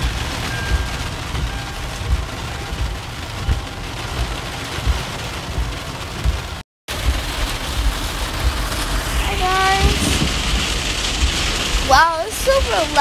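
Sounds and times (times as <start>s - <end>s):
heavy rain on a car roof: 0.0s - 13.0s.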